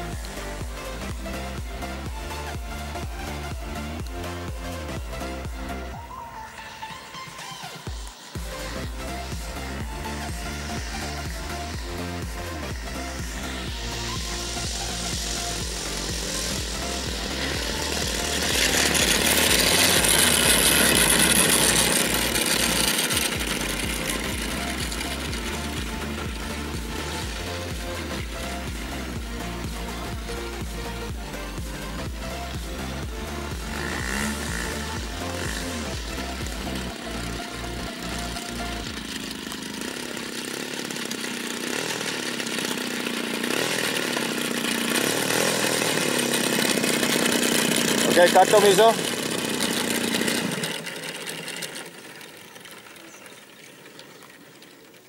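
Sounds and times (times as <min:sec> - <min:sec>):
model plane petrol engine running: 0:00.0 - 0:55.0.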